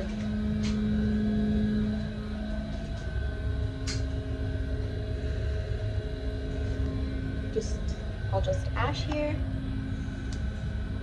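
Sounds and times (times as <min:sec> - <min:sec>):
air filtration system hum: 0:00.0 - 0:11.0.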